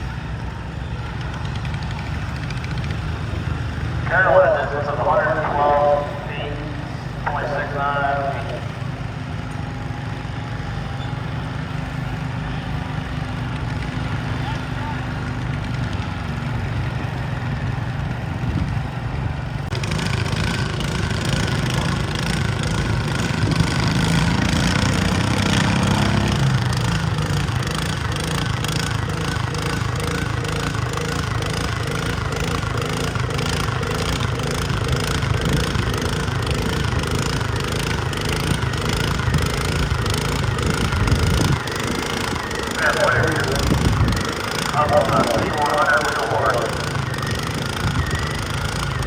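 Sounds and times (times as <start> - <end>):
garden tractor engine under load: 0.0 - 49.0.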